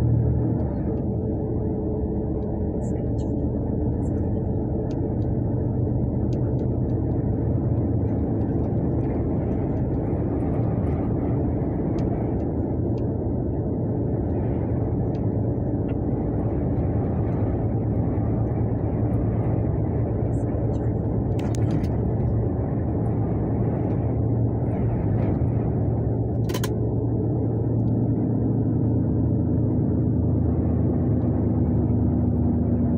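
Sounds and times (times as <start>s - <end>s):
vehicle engine and road drone: 0.0s - 32.9s.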